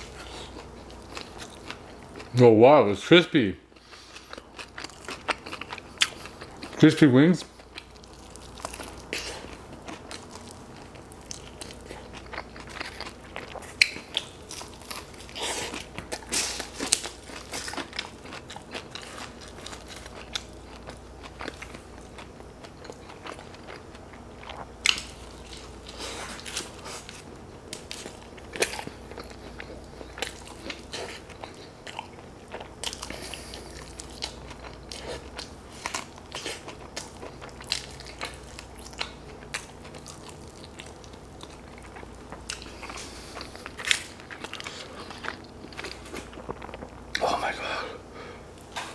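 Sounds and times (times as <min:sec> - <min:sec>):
wet chewing: 0:03.8 - 0:06.8, 0:07.4 - 0:47.4.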